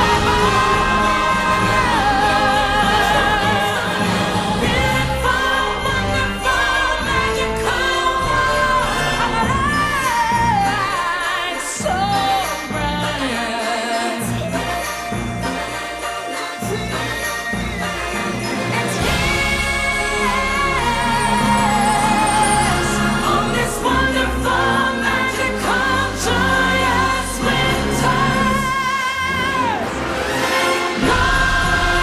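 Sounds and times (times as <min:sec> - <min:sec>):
jingling metal shakers: 0:00.0 - 0:28.8, 0:31.0 - 0:32.0
orchestral christmas music: 0:00.0 - 0:32.0
singing: 0:00.0 - 0:32.0.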